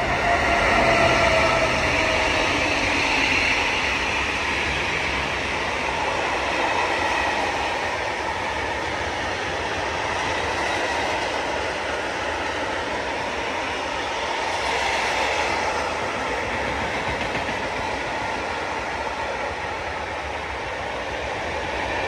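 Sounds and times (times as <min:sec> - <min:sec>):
train running past on rails: 0:00.0 - 0:22.0
train whine: 0:00.0 - 0:22.0.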